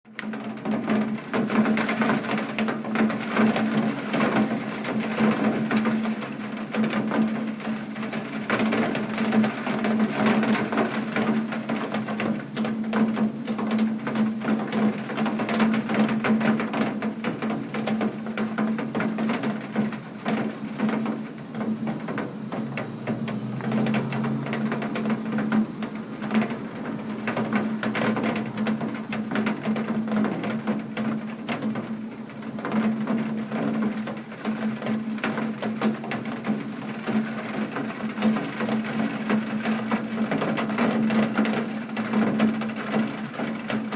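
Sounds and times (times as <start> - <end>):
rain on a hard surface: 0.1 - 43.9.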